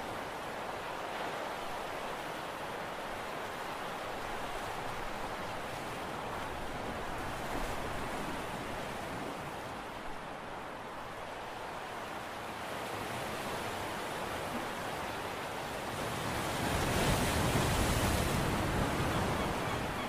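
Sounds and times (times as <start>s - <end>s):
sea waves rushing: 0.0s - 20.0s
wind: 0.0s - 20.0s.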